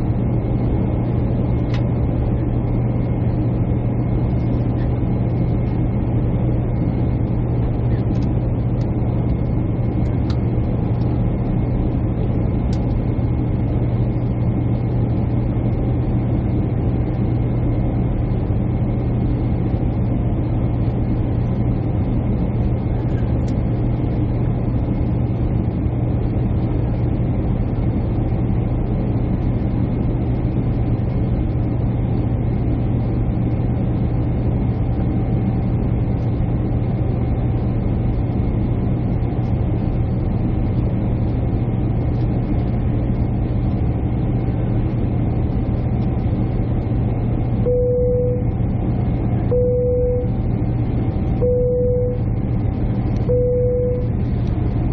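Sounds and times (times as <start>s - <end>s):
jet airliner cabin drone: 0.0s - 54.9s.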